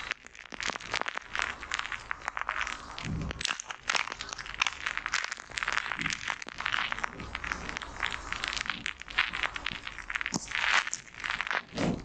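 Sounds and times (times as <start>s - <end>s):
foam crackling and popping: 0.0s - 12.0s.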